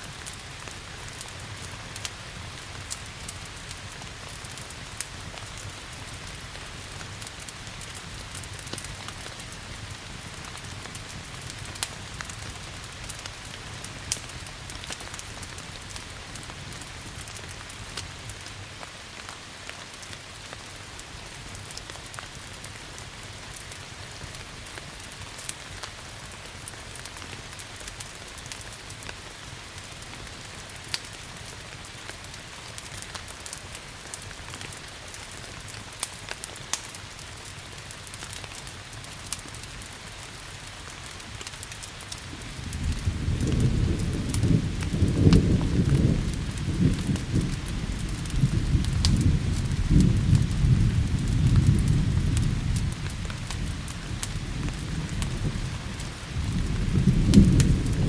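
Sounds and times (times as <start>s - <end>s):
crackling wood fire: 0.0s - 58.0s
steady rain hissing: 0.0s - 58.0s.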